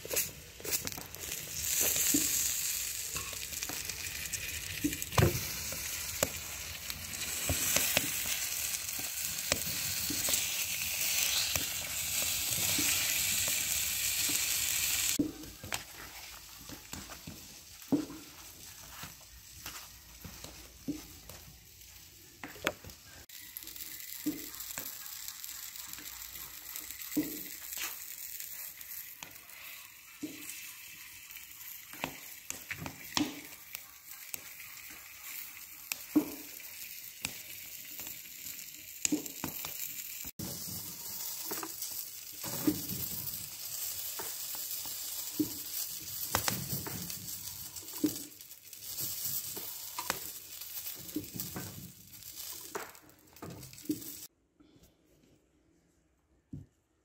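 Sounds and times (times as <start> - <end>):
flatbreads sizzling on griddle: 0.0 - 54.3.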